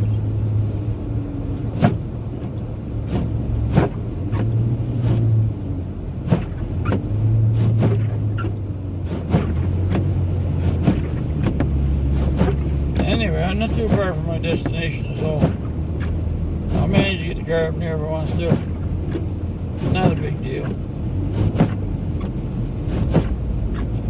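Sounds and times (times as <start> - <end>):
car engine and road hum: 0.0 - 24.0.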